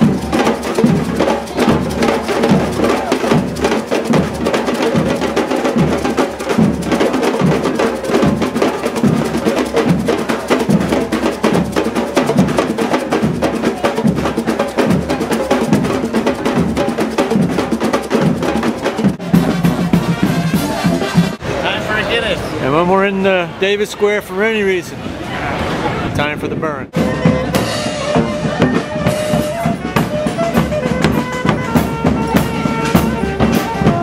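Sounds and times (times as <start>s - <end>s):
drums beating: 0.0s - 23.3s, 26.2s - 34.0s.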